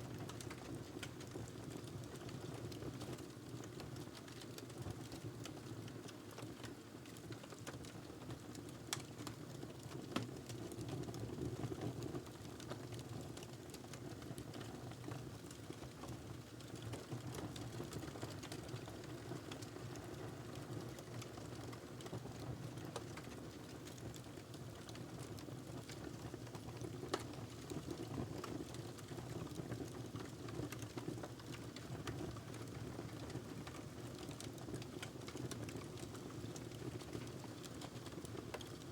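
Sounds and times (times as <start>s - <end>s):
wood fire crackling: 0.2s - 10.8s, 12.2s - 38.9s.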